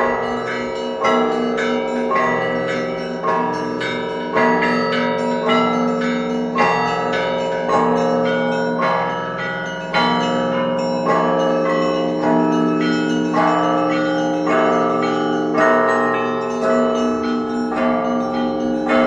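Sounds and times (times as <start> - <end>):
large bell striking: 0.0 - 19.0
smaller higher bells ringing: 0.0 - 19.0.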